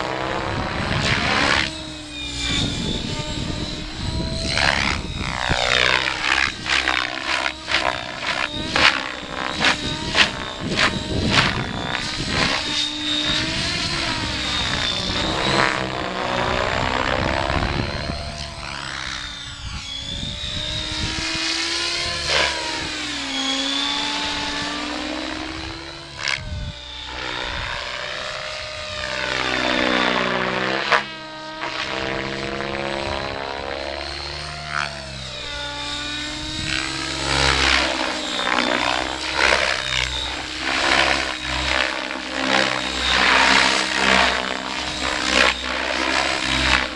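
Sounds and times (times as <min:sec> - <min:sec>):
model helicopter rotor and motor: 0:00.0 - 0:46.9
thin high whine: 0:00.0 - 0:46.9.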